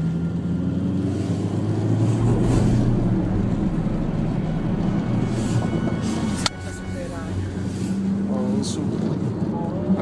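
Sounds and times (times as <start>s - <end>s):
car engine running: 0.0s - 10.0s
road and wind noise: 0.0s - 10.0s.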